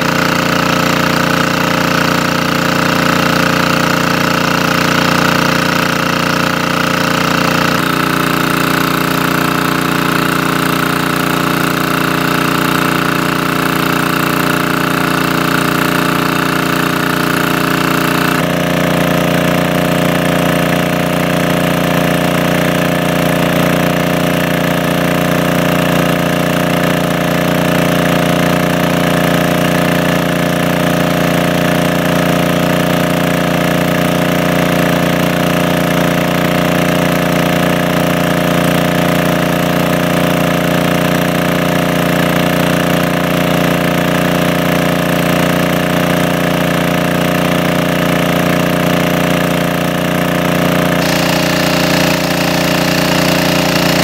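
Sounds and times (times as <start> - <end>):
water pump engine running: 0.0 - 54.0.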